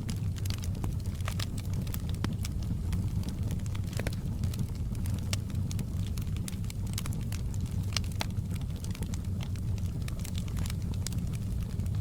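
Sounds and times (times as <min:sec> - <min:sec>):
wood fire crackling: 0:00.0 - 0:02.6, 0:03.9 - 0:11.9
low rumble of flames: 0:00.0 - 0:12.0.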